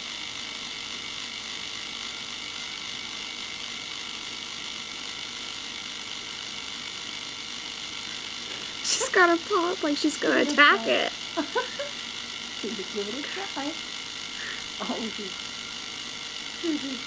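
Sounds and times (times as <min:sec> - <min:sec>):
small motor whir: 0:00.0 - 0:17.0.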